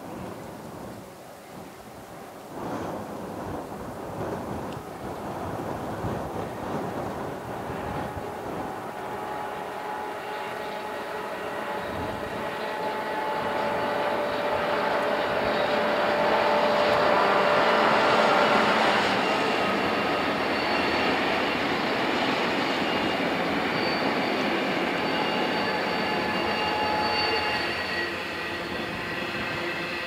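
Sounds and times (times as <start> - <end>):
train rumble: 0.0 - 30.0
locomotive engines whining: 4.8 - 30.0.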